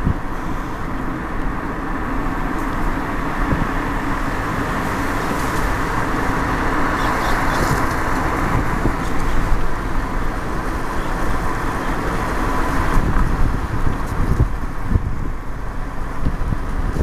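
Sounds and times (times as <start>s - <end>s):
car driving heard from inside: 0.0s - 17.0s.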